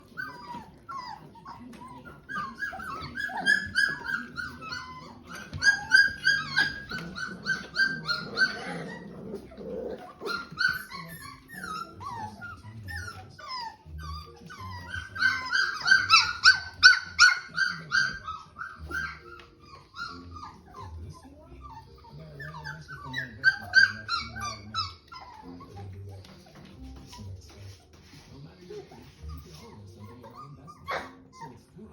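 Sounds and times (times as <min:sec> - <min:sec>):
dog whining and yelping: 0:00.0 - 0:25.9, 0:29.0 - 0:31.8.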